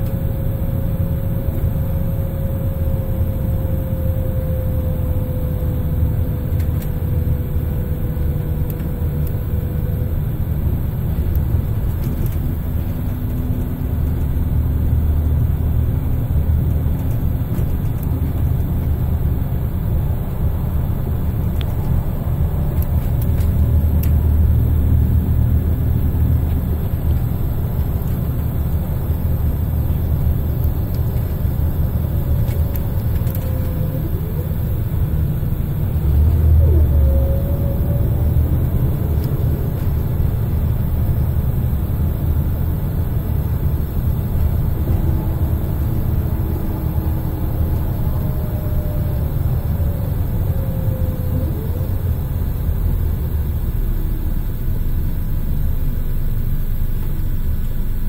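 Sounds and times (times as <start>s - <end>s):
diesel bus engine rumble: 0.0s - 58.0s
gearbox whine: 0.0s - 58.0s.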